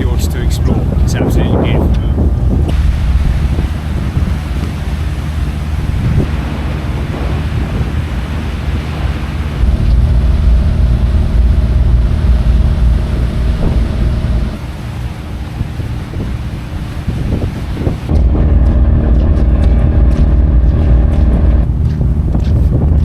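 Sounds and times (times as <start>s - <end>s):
low engine drone: 0.0s - 23.0s
wind buffeting microphone: 0.0s - 23.0s.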